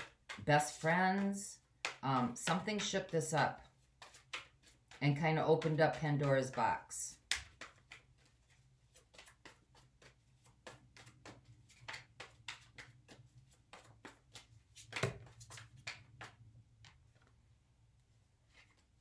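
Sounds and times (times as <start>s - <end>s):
cards being shuffled: 0.0s - 17.3s.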